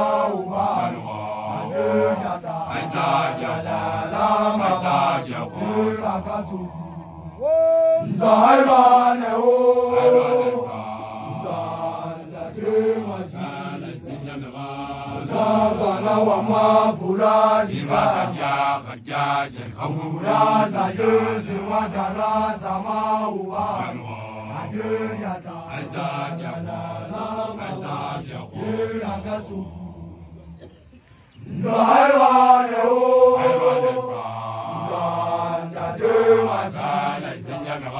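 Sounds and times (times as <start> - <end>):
men chanting together: 0.0 - 30.7, 31.4 - 37.9.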